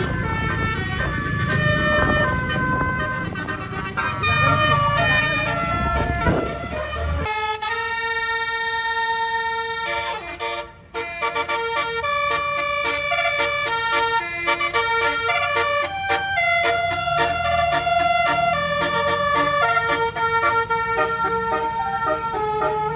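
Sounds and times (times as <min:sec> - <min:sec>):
bus air horn playing a tune: 0:00.0 - 0:22.9
low engine rumble: 0:00.0 - 0:22.9.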